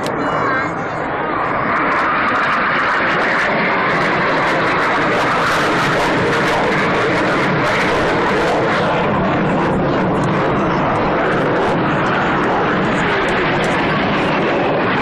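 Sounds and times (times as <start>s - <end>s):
jet aircraft flying overhead: 0.0s - 15.0s.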